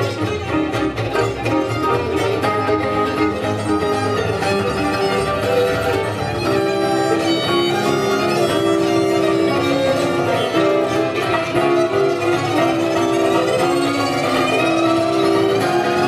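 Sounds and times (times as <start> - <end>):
fiddle playing held notes: 0.0 - 16.0.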